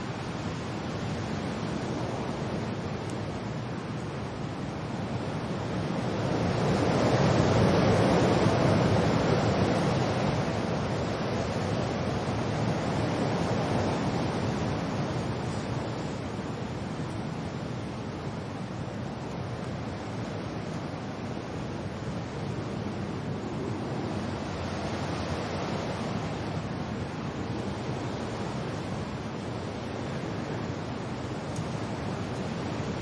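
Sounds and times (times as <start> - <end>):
rain: 0.0 - 33.0
wind: 0.0 - 33.0.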